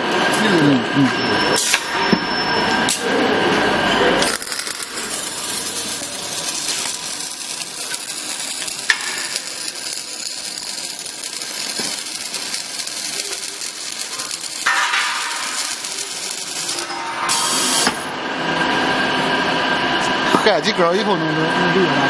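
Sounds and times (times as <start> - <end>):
factory machinery hissing: 0.0 - 22.0.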